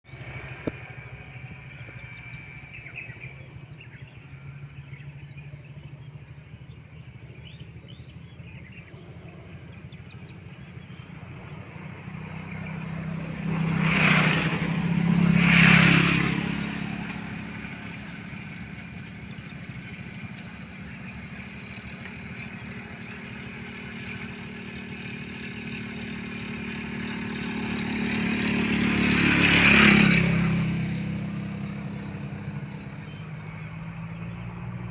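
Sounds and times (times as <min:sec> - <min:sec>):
vehicles passing by: 0:00.0 - 0:34.9
high insect drone: 0:00.1 - 0:34.9.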